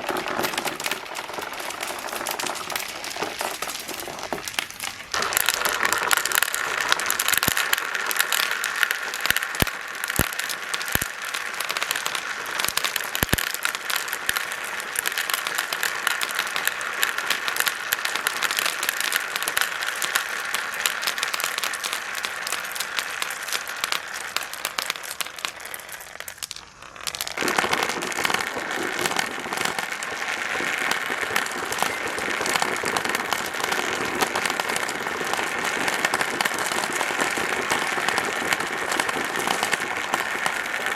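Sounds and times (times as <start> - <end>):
marbles rolling and clattering: 0.0 - 40.9.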